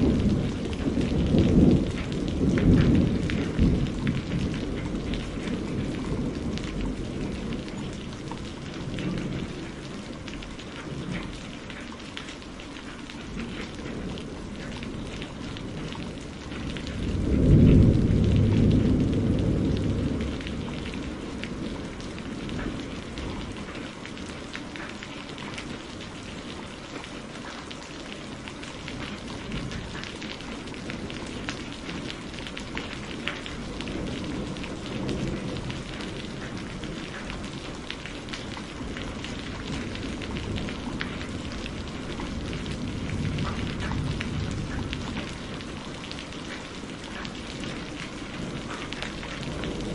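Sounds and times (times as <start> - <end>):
thunder rolling: 0.0 - 11.7, 13.3 - 23.8, 28.8 - 49.9
steady rain falling: 0.0 - 49.9.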